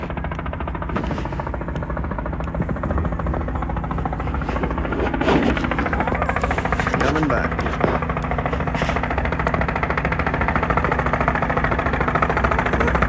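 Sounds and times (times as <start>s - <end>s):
helicopter rotor blades chopping: 0.0s - 13.0s.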